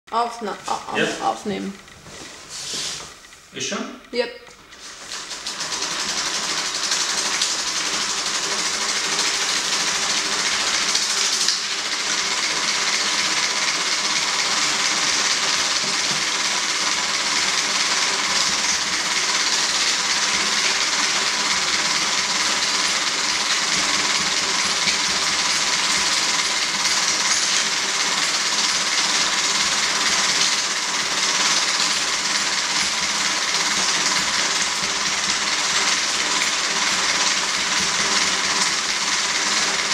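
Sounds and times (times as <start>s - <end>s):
film projector whirring: 0.1s - 39.9s.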